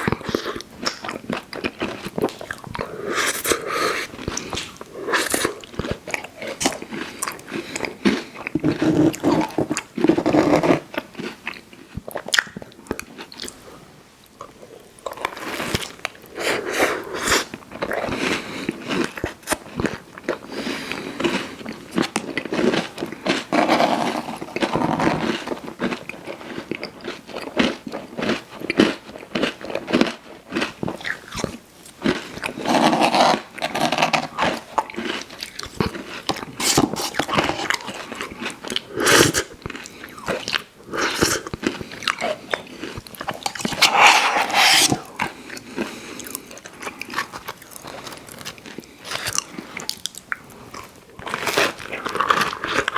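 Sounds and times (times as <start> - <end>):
person chewing candy: 0.0 - 13.8, 14.4 - 52.9.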